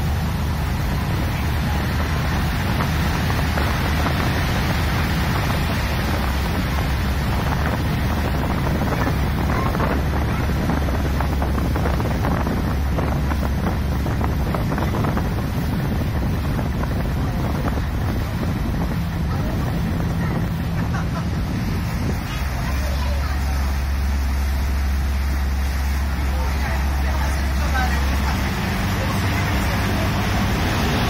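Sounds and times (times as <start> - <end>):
boat engines humming: 0.0 - 31.0
water rushing past hull: 0.0 - 31.0
wind buffeting microphone: 0.0 - 31.0.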